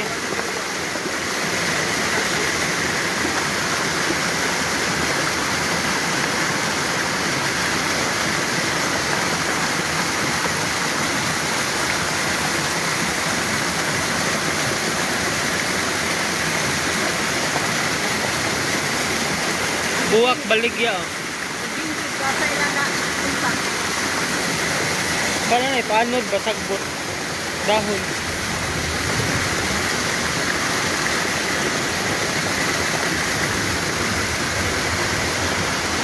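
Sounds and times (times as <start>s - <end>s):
floodwater rushing: 0.0s - 36.0s.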